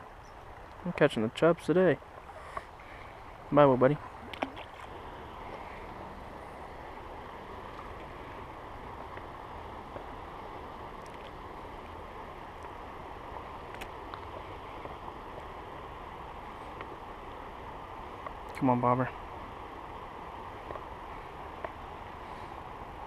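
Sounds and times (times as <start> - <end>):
creek water flowing: 0.0 - 23.0.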